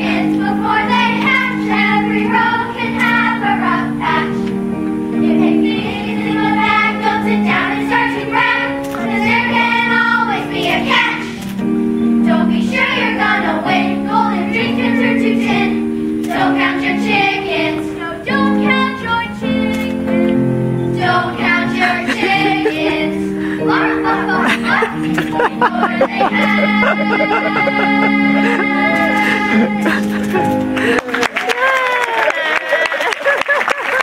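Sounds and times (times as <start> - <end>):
children singing together: 0.0 - 30.6
instrumental accompaniment: 0.0 - 31.5.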